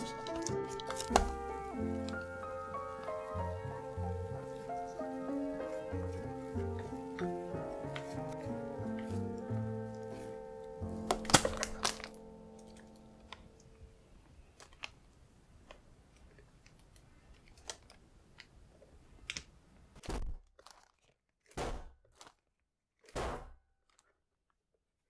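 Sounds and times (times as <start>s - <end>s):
parchment paper crinkling: 0.0s - 21.4s.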